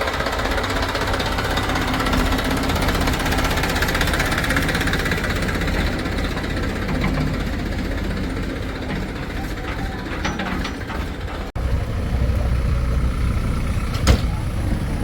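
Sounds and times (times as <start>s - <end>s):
diesel engine with knocking rattle: 0.0s - 15.0s.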